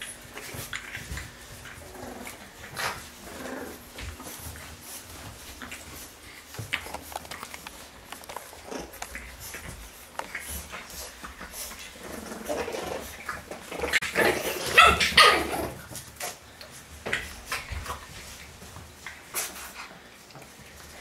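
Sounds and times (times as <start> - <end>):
puppies barking and growling: 0.0 - 21.0.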